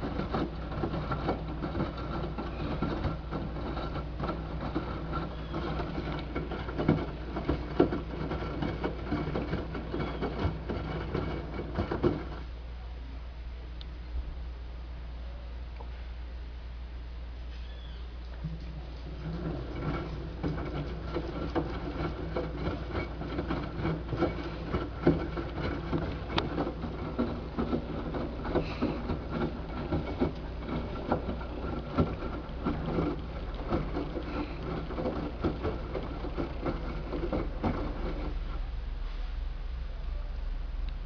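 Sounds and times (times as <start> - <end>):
washing machine motor hum: 0.0 - 12.5, 18.4 - 41.0.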